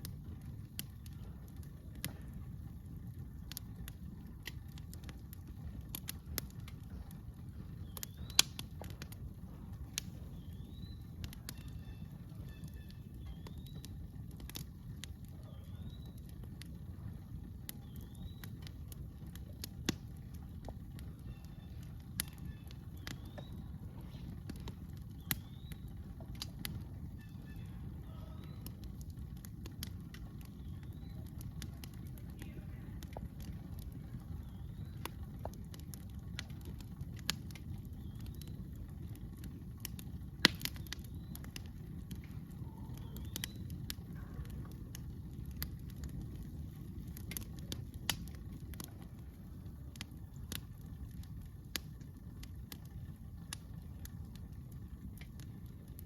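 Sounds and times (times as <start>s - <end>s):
campfire crackling: 0.0s - 56.0s
low rumble: 0.0s - 56.0s.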